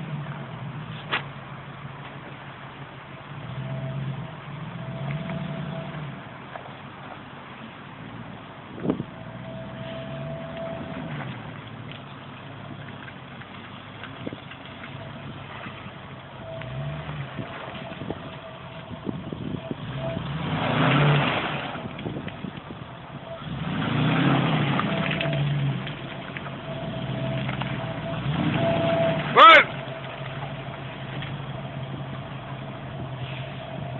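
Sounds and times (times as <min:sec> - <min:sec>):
off-road vehicle engine revving: 0:00.0 - 0:01.5, 0:03.3 - 0:06.4, 0:08.0 - 0:13.8, 0:14.7 - 0:33.9.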